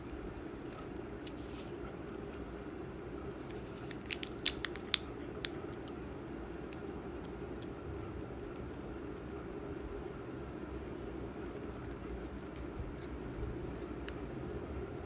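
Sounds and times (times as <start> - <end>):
cat chewing with clicking bites: 0.0 - 14.6.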